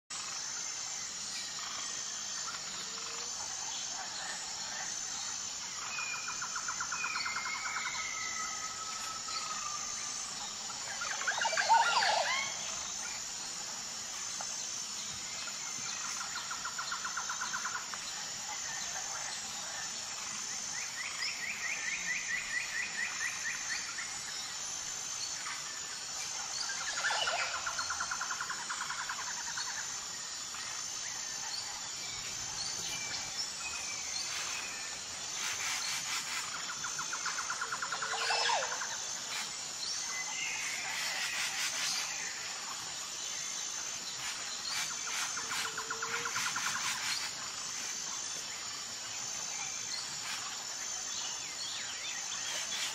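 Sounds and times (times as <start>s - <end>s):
high-pitched insect chirring: 0.1s - 52.9s.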